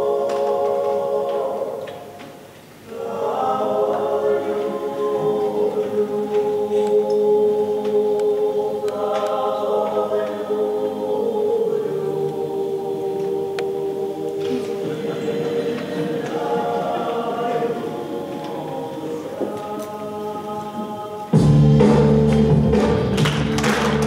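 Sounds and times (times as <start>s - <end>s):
choir singing long chords: 0.0s - 24.0s.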